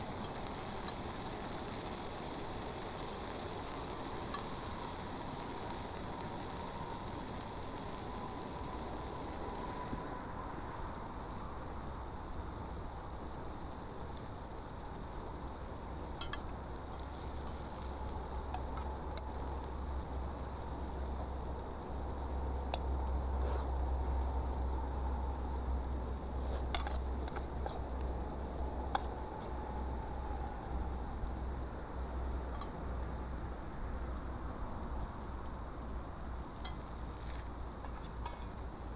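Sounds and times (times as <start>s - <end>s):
steak sizzling on griddle: 0.0s - 38.9s.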